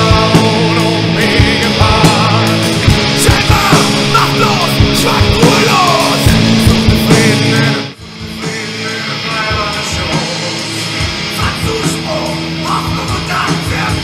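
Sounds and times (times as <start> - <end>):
guitar-driven punk band music: 0.0 - 14.0.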